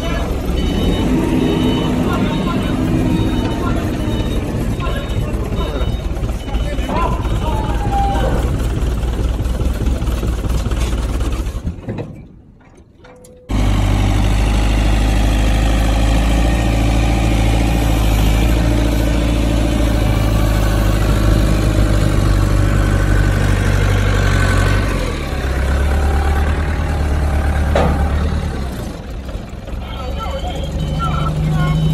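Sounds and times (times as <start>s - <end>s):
forklift engine running: 0.0s - 31.9s.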